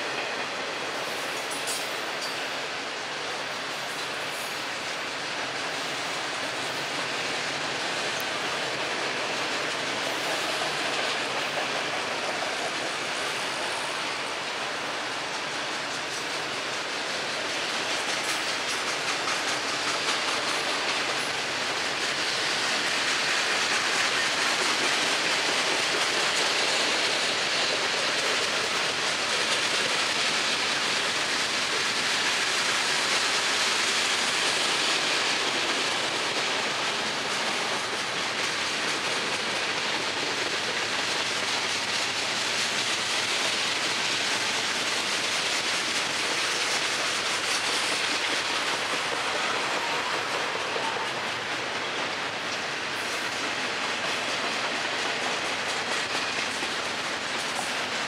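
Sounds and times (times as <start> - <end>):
freight train rolling on rails: 0.0 - 58.0.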